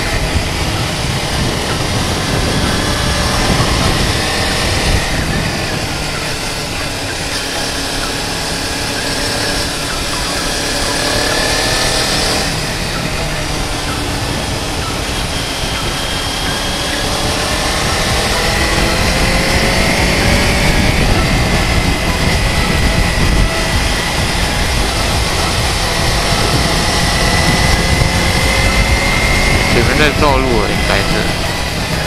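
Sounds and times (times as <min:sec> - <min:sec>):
motorcycle engine running: 0:00.0 - 0:32.0
wind rumble on microphone: 0:00.0 - 0:32.0.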